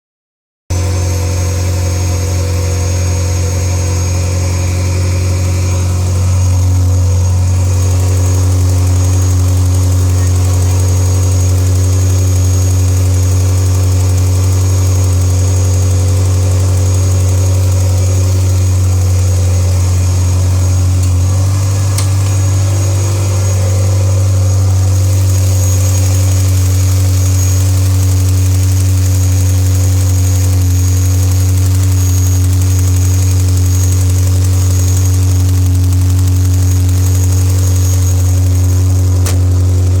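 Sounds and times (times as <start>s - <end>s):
car engine idling: 0.7s - 40.0s
engine rattle: 0.7s - 40.0s.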